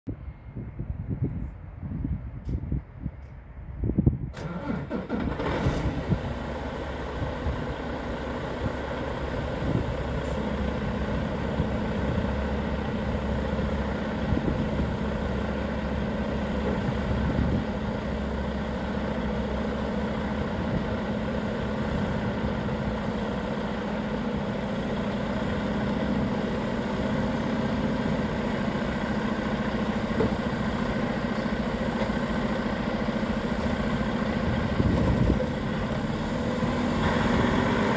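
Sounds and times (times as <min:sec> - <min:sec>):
diesel engine starting and idling: 0:04.0 - 0:37.9.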